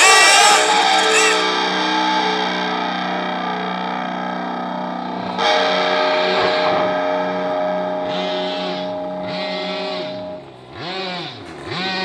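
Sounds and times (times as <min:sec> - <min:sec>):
distorted electric guitar chords: 0:00.0 - 0:12.0.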